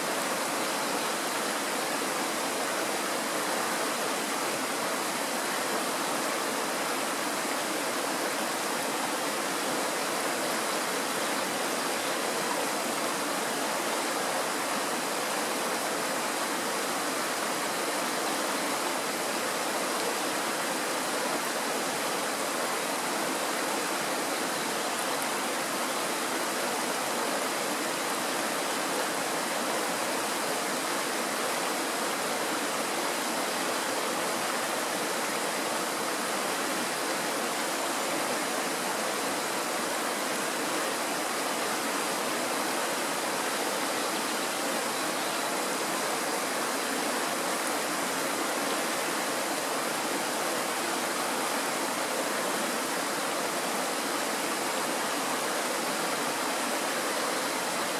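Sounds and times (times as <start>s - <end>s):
stream rushing over stones: 0.0s - 57.9s.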